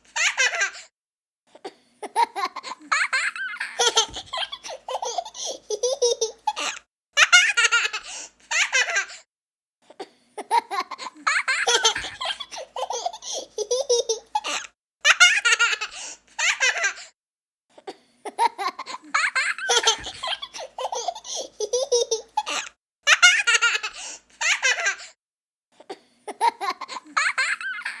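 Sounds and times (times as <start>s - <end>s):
young child laughing: 0.0s - 0.9s, 2.0s - 9.2s, 10.4s - 17.0s, 18.3s - 25.1s, 26.3s - 28.0s.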